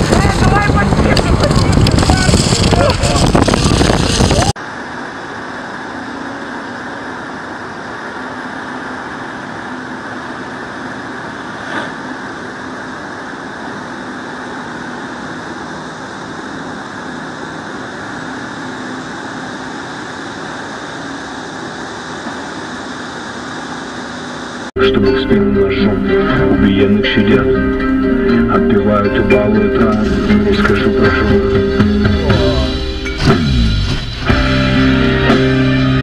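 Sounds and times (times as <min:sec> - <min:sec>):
distant engines droning: 0:00.0 - 0:36.0.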